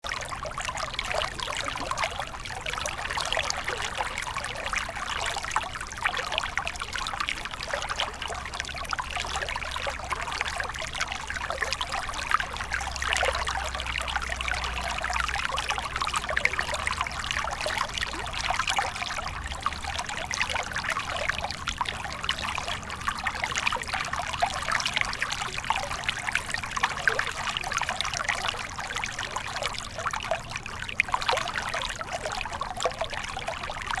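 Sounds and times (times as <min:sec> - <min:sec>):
stream running over rocks: 0:00.0 - 0:34.0.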